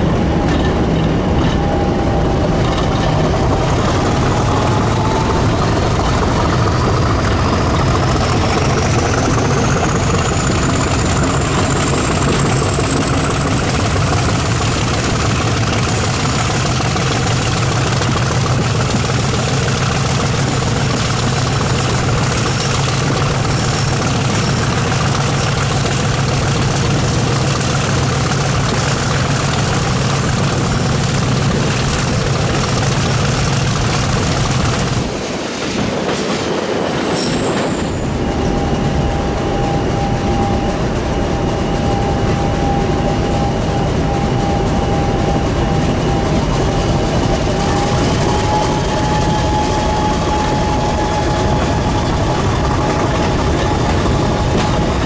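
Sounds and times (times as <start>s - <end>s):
diesel train engine droning: 0.0s - 55.0s.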